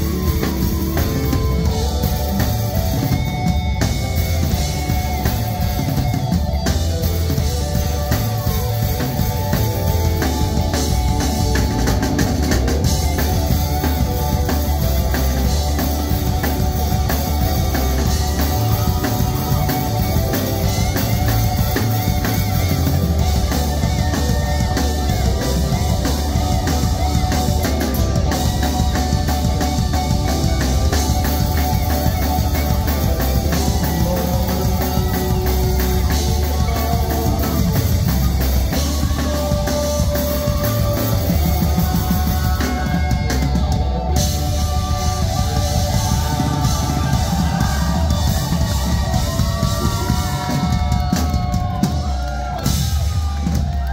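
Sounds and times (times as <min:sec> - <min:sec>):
lead guitar line: 0:00.0 - 0:53.9
rock band playing: 0:00.0 - 0:53.9.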